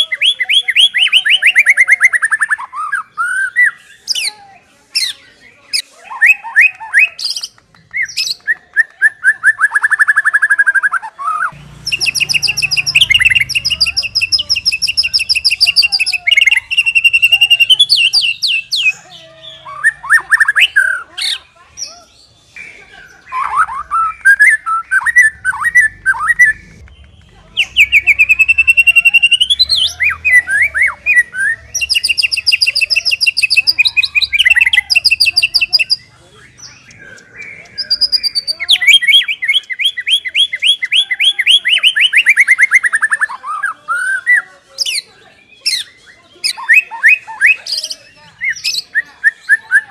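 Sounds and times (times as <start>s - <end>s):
bird singing varied song: 0.0s - 49.9s.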